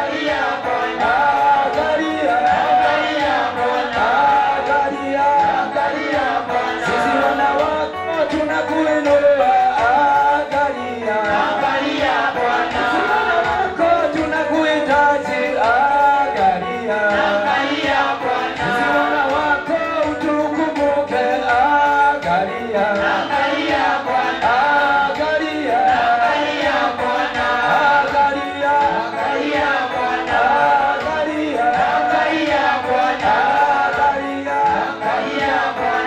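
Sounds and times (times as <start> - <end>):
man singing into a microphone: 0.0 - 36.0.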